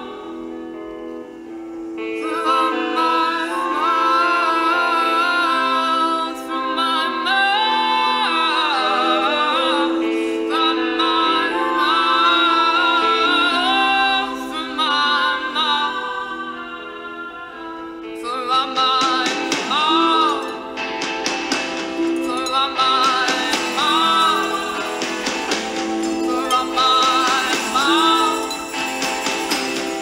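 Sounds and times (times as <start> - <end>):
slow sung melody over chords: 0.0 - 30.0.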